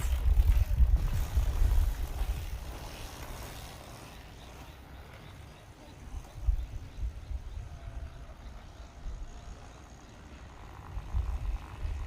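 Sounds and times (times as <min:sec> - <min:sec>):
wind buffeting microphone: 0:00.0 - 0:05.1, 0:06.1 - 0:09.7, 0:10.4 - 0:12.0.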